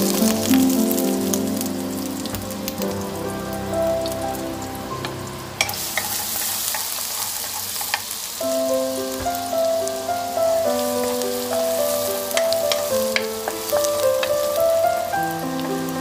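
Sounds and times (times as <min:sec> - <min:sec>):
light background music: 0:00.0 - 0:06.5, 0:08.4 - 0:16.0
garlic sizzling in hot oil: 0:00.0 - 0:16.0.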